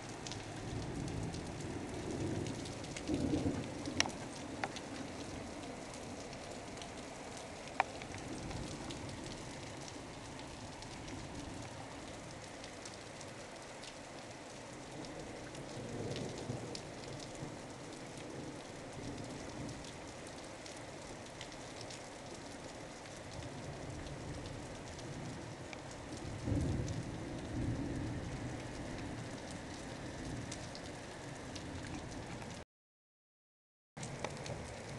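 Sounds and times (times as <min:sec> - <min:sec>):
heavy rain falling: 0:00.0 - 0:32.6, 0:34.0 - 0:34.9.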